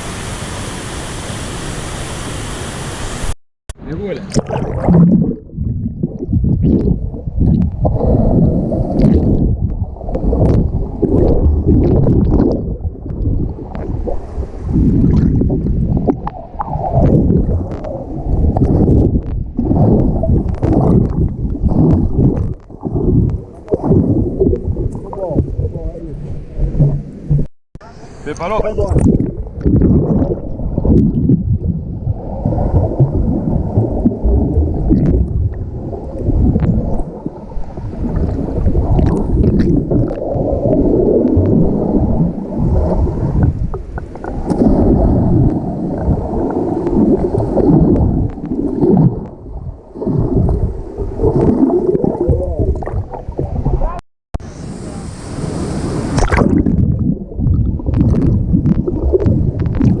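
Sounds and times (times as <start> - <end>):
muffled river water underwater: 0.0 - 60.0.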